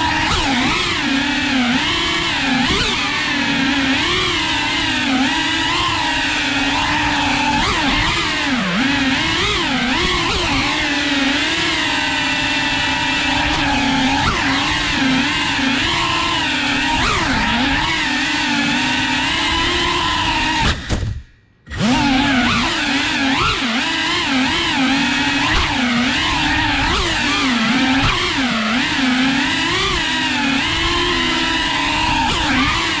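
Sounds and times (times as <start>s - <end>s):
quadcopter propellers whining: 0.0s - 33.0s.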